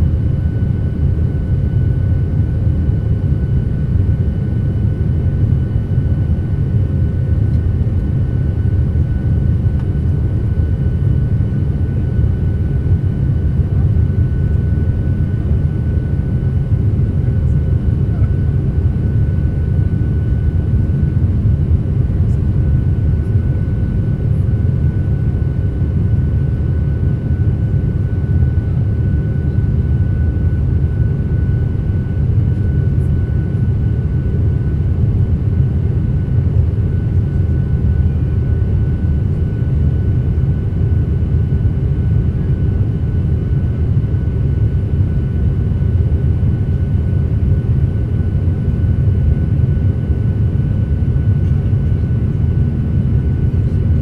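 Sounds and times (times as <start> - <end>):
low rumble of aircraft engines: 0.0 - 54.0.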